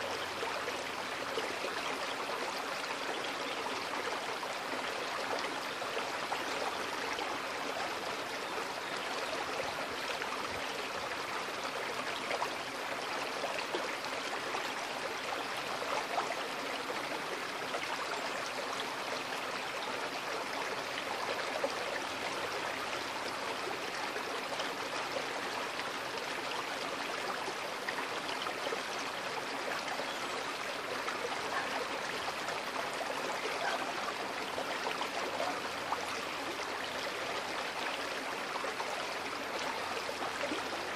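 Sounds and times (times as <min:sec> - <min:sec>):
creek flowing over stones: 0:00.0 - 0:40.9.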